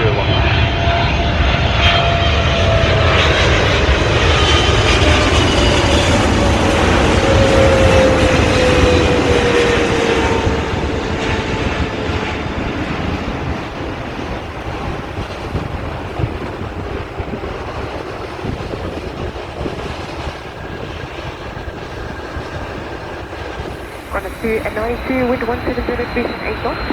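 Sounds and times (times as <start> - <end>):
falling engine whine: 0.0 - 26.9
jet engines rumbling: 0.0 - 26.9.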